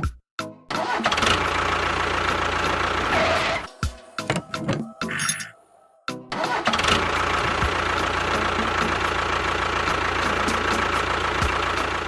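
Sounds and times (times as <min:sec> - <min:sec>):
engine running: 0:00.8 - 0:05.4, 0:06.3 - 0:12.0.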